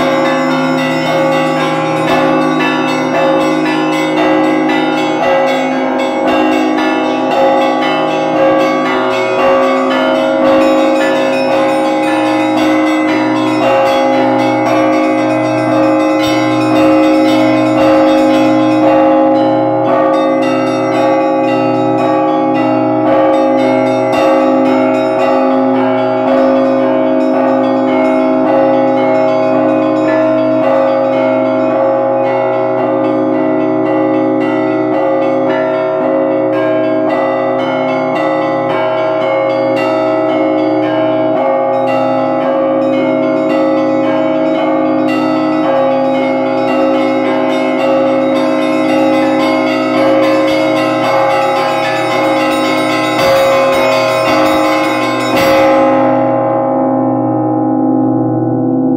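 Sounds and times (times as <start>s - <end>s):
small bells chiming rapidly: 0.0s - 56.4s
middle bells ringing: 0.0s - 58.2s
low bell tolling steadily: 0.0s - 58.9s.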